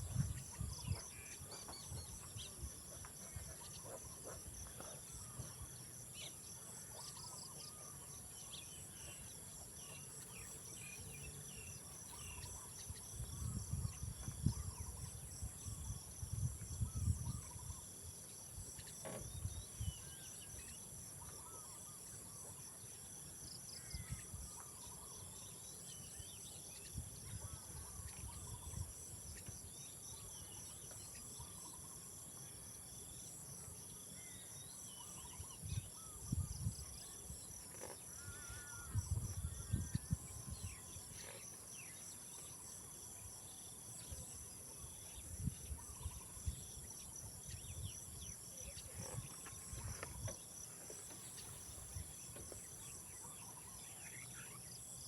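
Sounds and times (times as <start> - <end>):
insect chirps: 0.0 - 55.0
insect chorus droning: 0.0 - 55.0.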